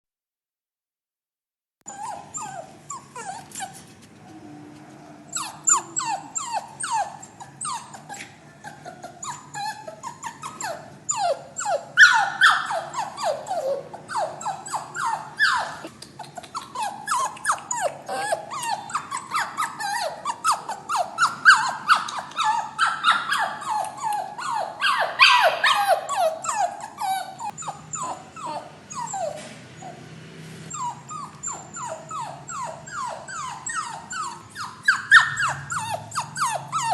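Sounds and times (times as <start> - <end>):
puppy crying and whimpering: 1.9 - 30.0, 30.7 - 36.9.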